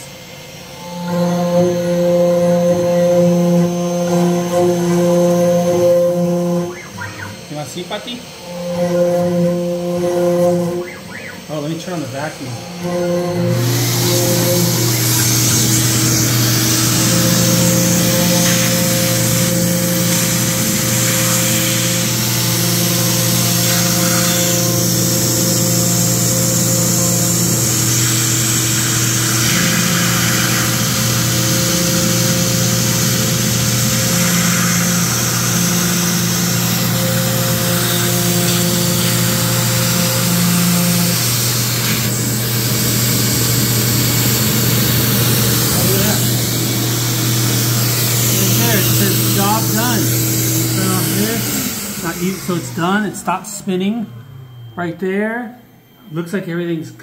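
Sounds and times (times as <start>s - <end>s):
router spindle running: 0.0s - 57.0s
stepper motors humming: 0.0s - 57.0s
vacuum hissing: 0.0s - 57.0s.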